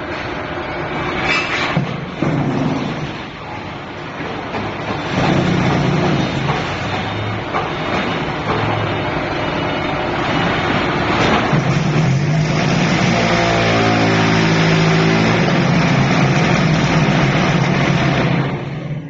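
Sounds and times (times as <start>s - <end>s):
block making machine running: 0.0s - 19.0s.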